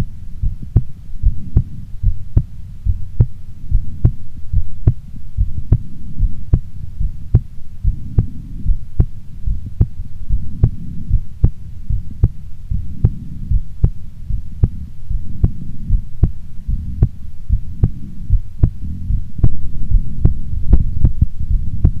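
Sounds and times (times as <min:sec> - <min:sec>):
low rumbling hum: 0:00.0 - 0:22.0
heartbeat clicks: 0:00.4 - 0:22.0.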